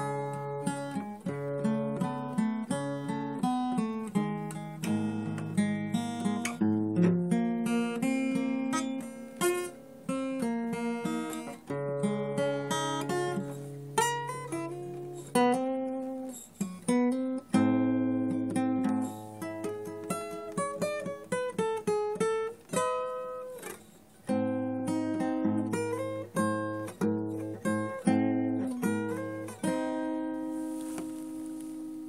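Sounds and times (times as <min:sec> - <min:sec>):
acoustic guitar music: 0:00.0 - 0:32.0.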